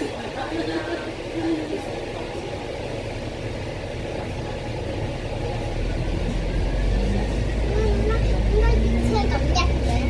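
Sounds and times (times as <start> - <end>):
bus engine rumbling: 0.0 - 10.0.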